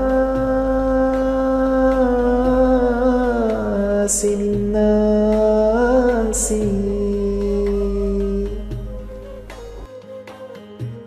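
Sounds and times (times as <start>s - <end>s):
low musical drone: 0.0s - 9.9s.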